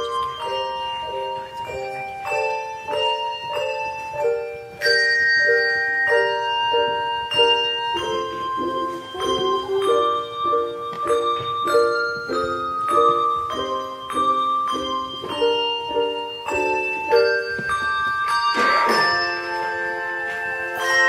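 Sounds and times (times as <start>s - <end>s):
handbell choir playing: 0.0s - 21.0s.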